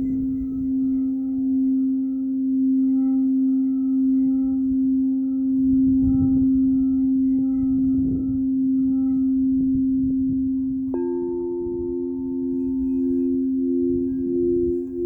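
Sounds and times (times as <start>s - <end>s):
wind rumble on microphone: 0.0s - 2.2s, 4.0s - 15.0s
singing bowl ringing: 0.0s - 15.0s.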